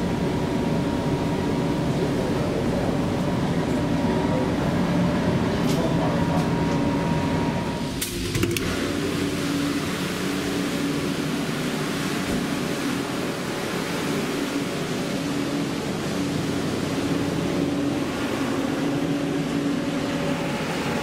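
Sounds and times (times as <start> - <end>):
machinery hum with held tones: 0.0 - 21.0.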